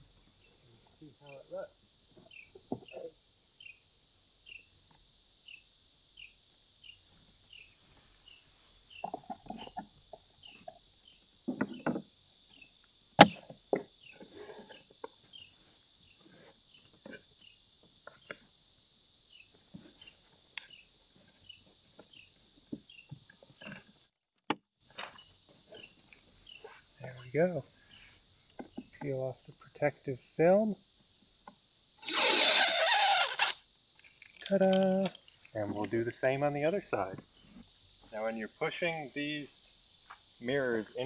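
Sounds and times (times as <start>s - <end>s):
insect drone with chirps: 0.0s - 24.2s, 24.8s - 41.0s.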